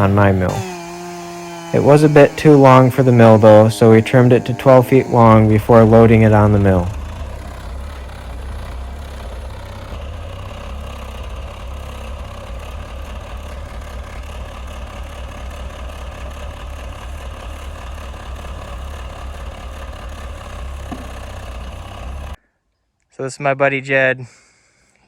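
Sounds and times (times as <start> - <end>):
engine idling: 0.0 - 22.4.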